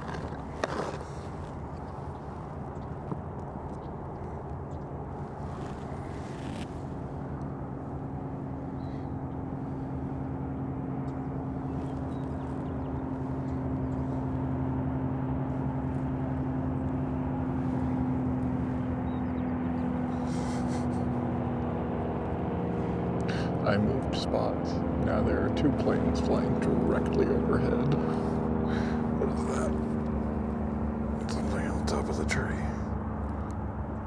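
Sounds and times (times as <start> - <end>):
aircraft engine hum: 0.0 - 34.0.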